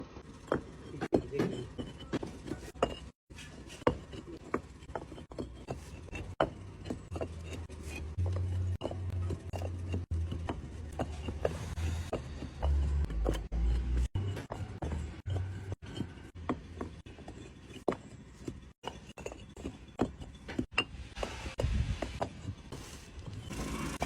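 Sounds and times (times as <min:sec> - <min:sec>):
paving stones clacking together: 0:00.2 - 0:24.0.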